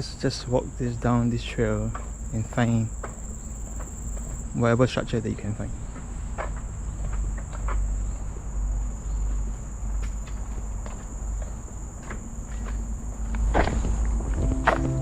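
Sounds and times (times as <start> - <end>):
crickets trilling: 0.0 - 15.0
footsteps on forest trail: 0.0 - 15.0.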